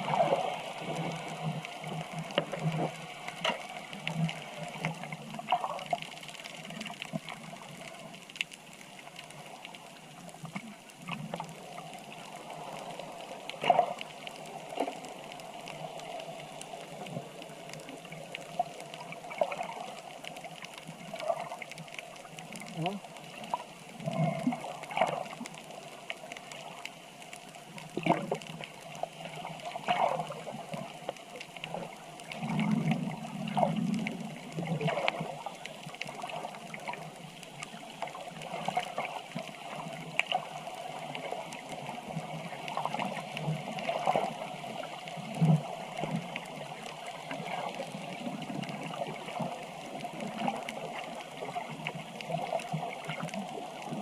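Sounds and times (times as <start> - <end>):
water sloshing and gurgling: 0.0 - 54.0.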